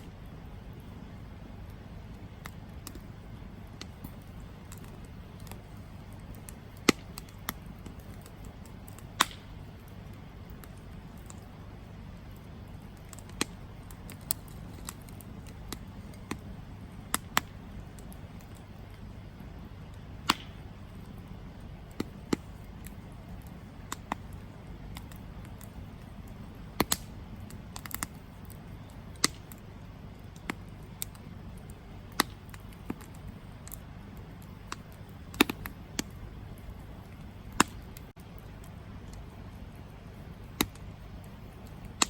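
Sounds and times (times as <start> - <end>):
campfire wood crackling: 0.0 - 42.0.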